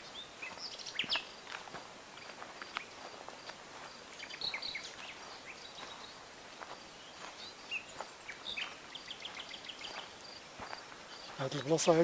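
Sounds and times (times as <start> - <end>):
faint outdoor hiss: 0.0 - 12.0
small birds chirping: 0.0 - 12.0.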